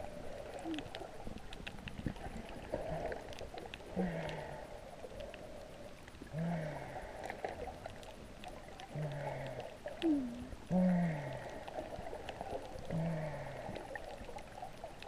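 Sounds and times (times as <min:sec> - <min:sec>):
faint underwater clicks: 0:00.0 - 0:15.0.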